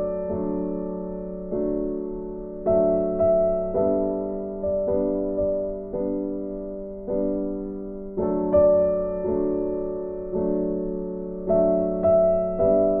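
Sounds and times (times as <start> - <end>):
electric piano slow chords: 0.0 - 13.0.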